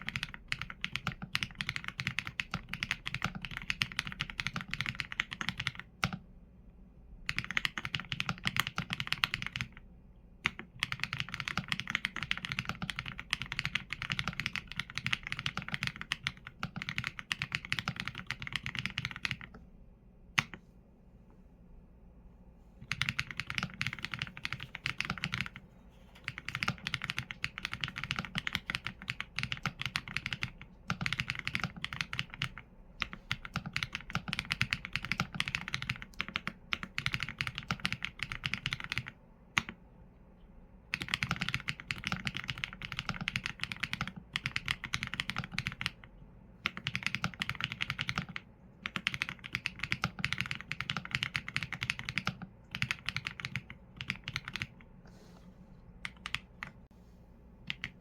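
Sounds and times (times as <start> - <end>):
mechanical keyboard typing: 0.0 - 6.2, 7.3 - 9.8, 10.4 - 19.6, 22.8 - 25.6, 26.2 - 39.8, 40.9 - 54.9, 56.0 - 56.8, 57.7 - 58.0.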